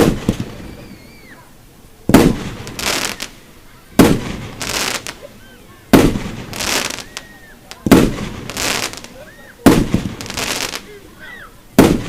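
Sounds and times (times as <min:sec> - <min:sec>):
fireworks bangs: 0:00.0 - 0:12.0
hissing fireworks burst: 0:00.0 - 0:12.0.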